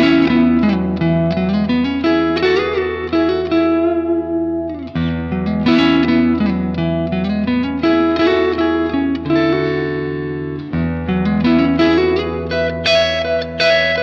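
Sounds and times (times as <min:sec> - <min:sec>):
guitar with reverb: 0:00.0 - 0:14.0.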